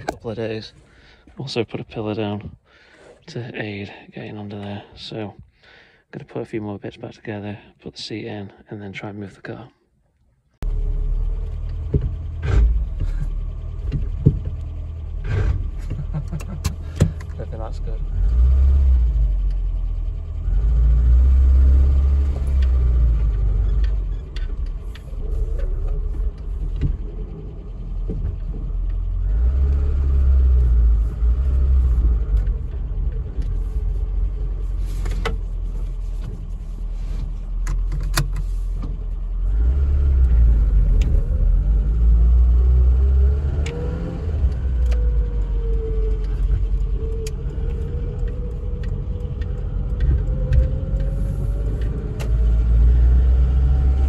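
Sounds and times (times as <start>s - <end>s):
car engine rumble from inside: 0.0s - 9.7s, 10.4s - 54.0s.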